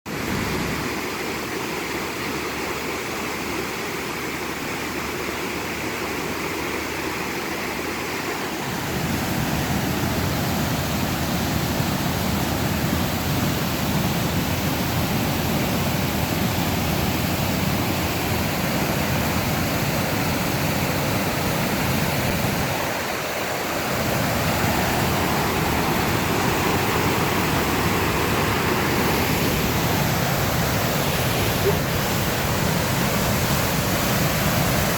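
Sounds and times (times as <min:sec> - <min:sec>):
water rushing over falls: 0:00.1 - 0:34.9.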